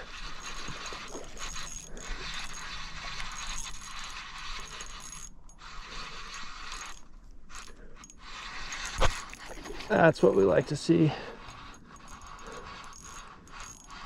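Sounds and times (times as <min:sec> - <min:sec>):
fishing reel ratcheting: 0:00.0 - 0:14.0.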